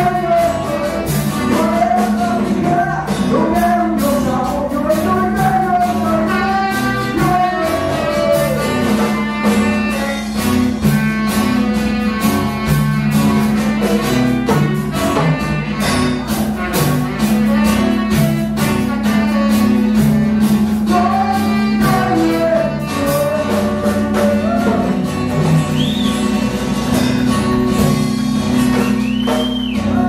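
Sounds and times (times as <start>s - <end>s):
drum kit beat: 0.0s - 30.0s
saxophone melody: 0.0s - 30.0s
strummed guitar: 0.0s - 30.0s.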